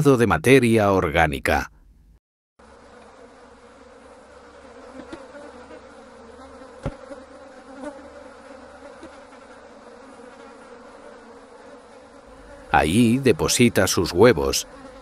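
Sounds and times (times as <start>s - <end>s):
flies buzzing: 2.6s - 15.0s.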